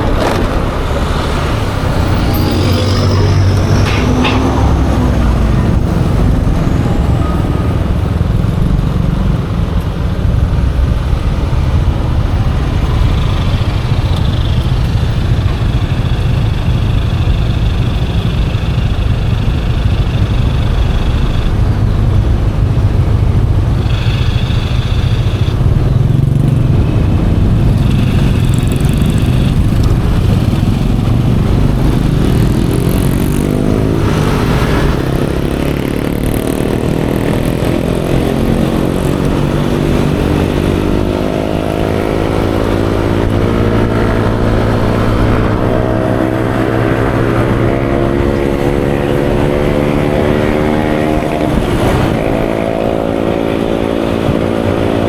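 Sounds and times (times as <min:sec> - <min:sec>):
scooter engine running: 0:00.0 - 0:55.0
wind on microphone: 0:00.0 - 0:55.0.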